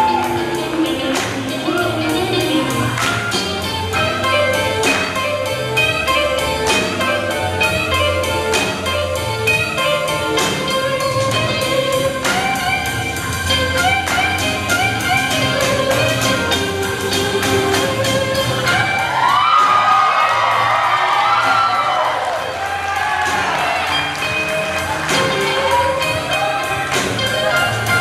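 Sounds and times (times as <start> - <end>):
slow blues music: 0.0 - 28.0.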